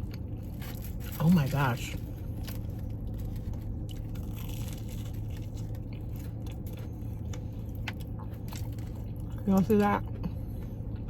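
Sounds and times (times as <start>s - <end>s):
person chewing crunchy food: 0.0s - 11.0s
steady low hum: 0.0s - 11.0s.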